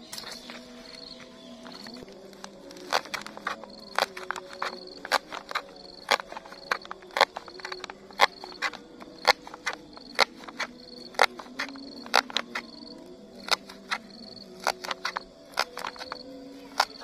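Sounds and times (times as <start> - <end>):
faint insect calling: 0.0 - 17.0.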